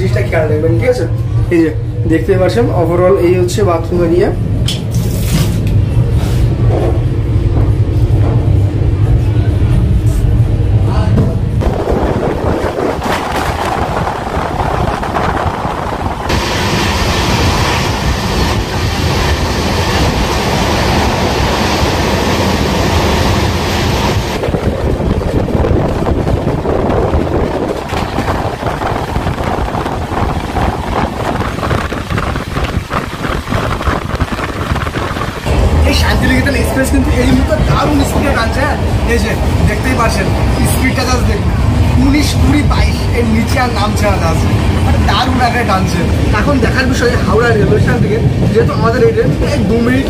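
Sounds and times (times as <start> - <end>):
train wheels rumbling on track: 0.0 - 50.0
rushing air: 3.0 - 50.0.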